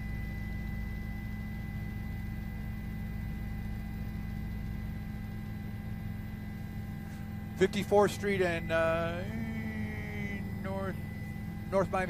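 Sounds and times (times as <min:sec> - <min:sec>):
helicopter engine and rotors droning: 0:00.0 - 0:12.0.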